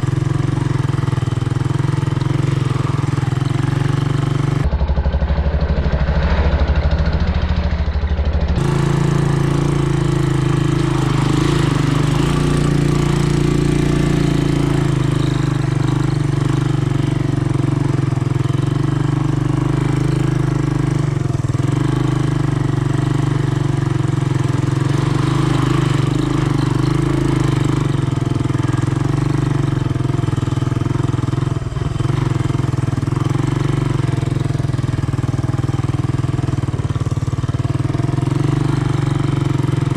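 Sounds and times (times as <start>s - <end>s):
three-wheeler engine running: 0.0s - 39.9s.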